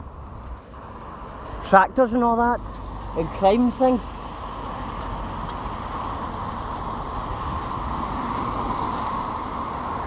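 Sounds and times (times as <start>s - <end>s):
rumble of passing vehicles: 0.0s - 10.0s.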